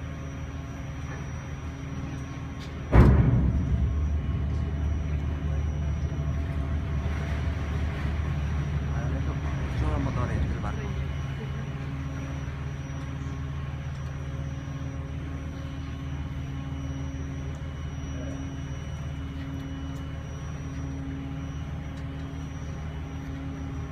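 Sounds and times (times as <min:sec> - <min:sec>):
boat engine droning: 0:00.0 - 0:23.9.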